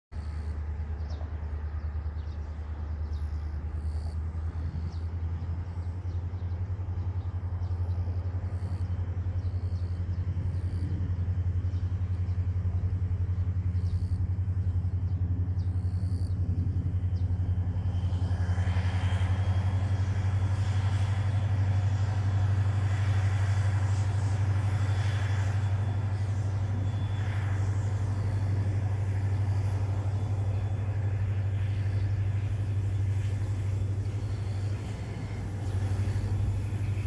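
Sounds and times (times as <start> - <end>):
distant diesel locomotive engine: 0.1 - 37.0.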